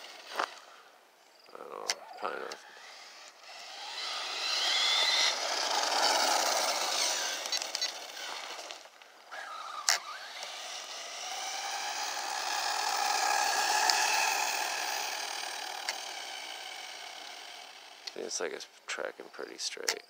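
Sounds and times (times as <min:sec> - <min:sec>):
rc car motor whining: 0:00.0 - 0:00.8, 0:01.4 - 0:18.7.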